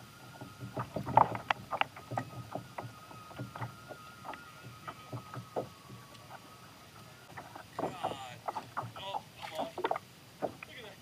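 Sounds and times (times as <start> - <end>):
water splashing against a kayak: 0.0 - 11.0.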